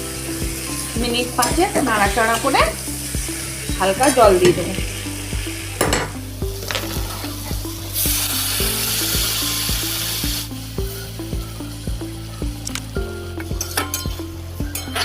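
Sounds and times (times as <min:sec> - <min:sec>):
vegetables sizzling in oil: 0:00.0 - 0:15.0
water hissing in hot pan: 0:00.0 - 0:15.0.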